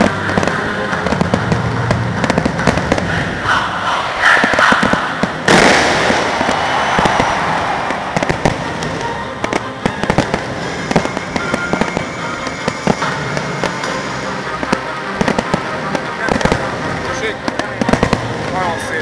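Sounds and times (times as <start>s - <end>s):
fireworks popping: 0.0s - 3.2s, 4.3s - 19.0s
firework bang: 0.0s - 3.5s, 4.2s - 14.0s, 14.6s - 18.4s
fireworks crackling: 0.0s - 3.5s, 4.2s - 19.0s.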